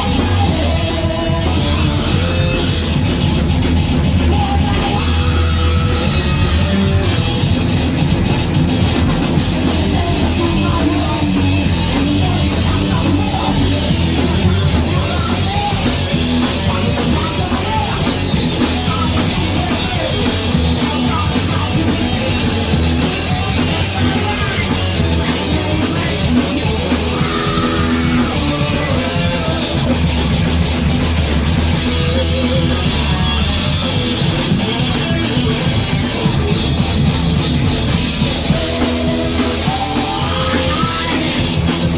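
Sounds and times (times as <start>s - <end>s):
bass guitar: 0.0s - 41.9s
distorted electric guitars: 0.0s - 41.9s
drum kit: 0.0s - 41.9s.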